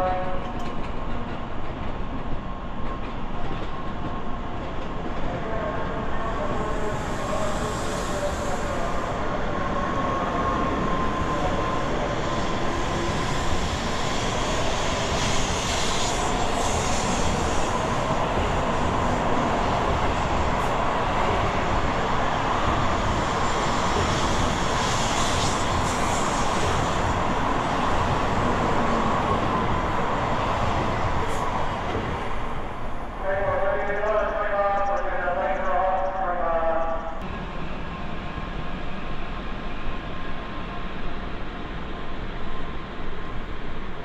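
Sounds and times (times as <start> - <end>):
high-speed train passing: 0.0 - 44.0.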